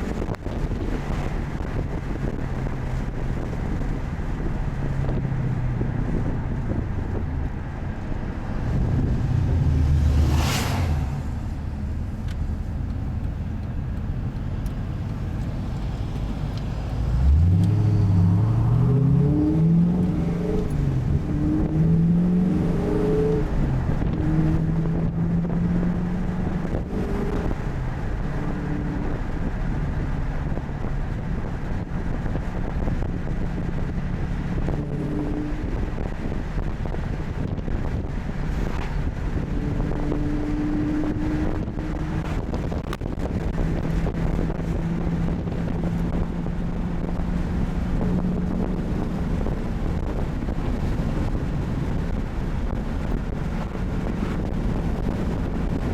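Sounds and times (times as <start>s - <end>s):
car engine accelerating through gears: 0.0s - 55.9s.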